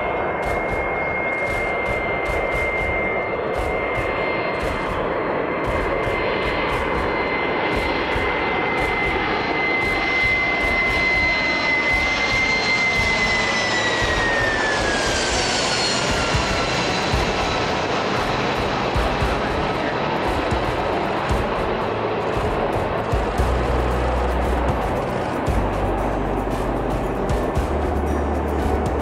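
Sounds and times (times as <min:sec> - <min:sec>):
jet airliner engines whining: 0:00.0 - 0:29.0.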